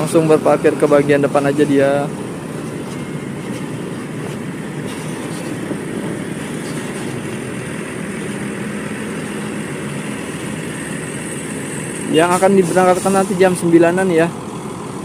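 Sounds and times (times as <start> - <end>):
diesel bus engine rumble: 0.0 - 15.0.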